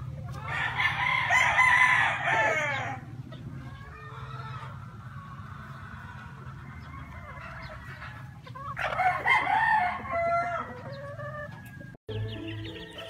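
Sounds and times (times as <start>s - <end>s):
hens clucking: 0.0s - 13.0s
rooster crowing: 0.4s - 3.0s, 3.7s - 12.0s.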